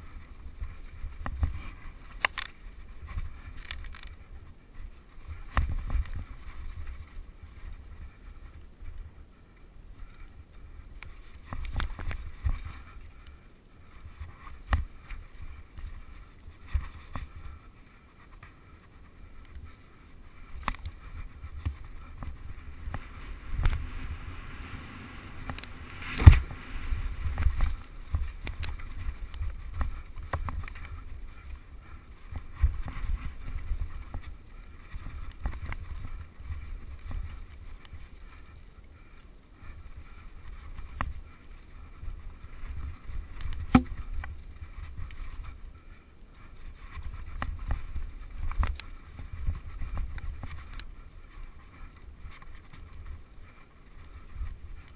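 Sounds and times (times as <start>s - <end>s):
bike rolling low rumble: 0.0s - 54.9s.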